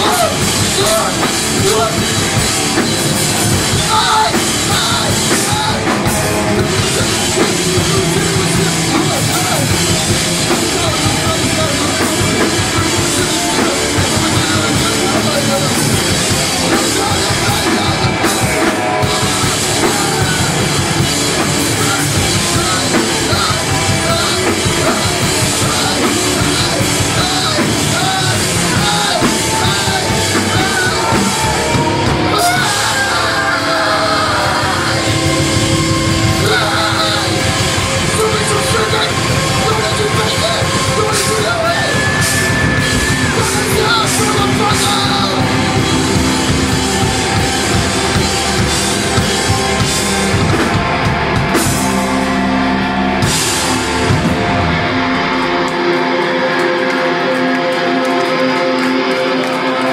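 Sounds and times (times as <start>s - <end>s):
bass guitar: 0.0s - 59.9s
drum kit: 0.0s - 59.9s
electric guitars: 0.0s - 59.9s.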